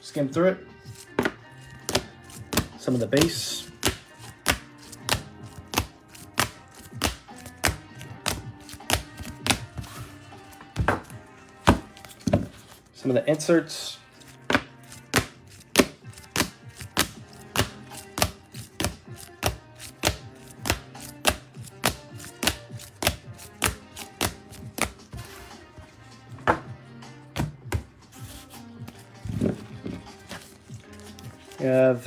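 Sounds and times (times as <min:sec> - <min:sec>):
faint background music: 0:00.0 - 0:32.0
cards tapping on table: 0:01.0 - 0:12.8, 0:14.2 - 0:25.5, 0:26.3 - 0:26.8, 0:27.4 - 0:32.0.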